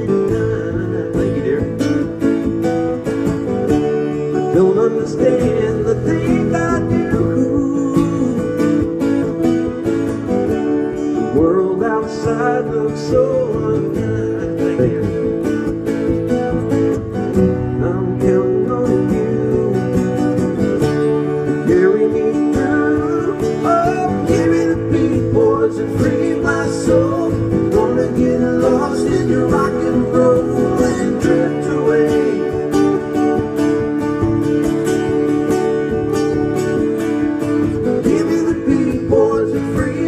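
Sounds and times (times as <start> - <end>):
acoustic guitars strumming chords: 0.0 - 40.0.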